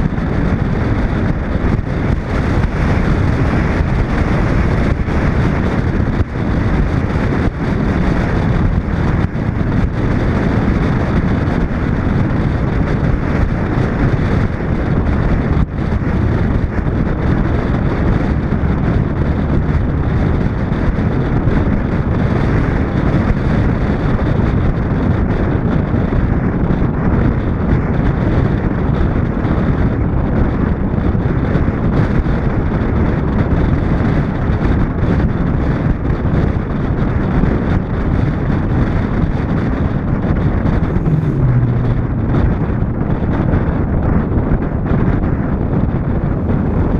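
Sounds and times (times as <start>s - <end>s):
car road noise: 0.0s - 46.9s
wind rushing on microphone: 0.0s - 46.9s.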